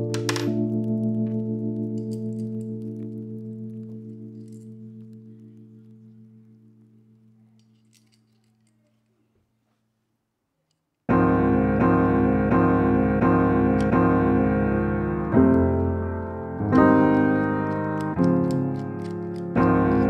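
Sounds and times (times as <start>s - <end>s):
piano playing repeated chords: 0.0s - 7.3s, 11.1s - 20.0s.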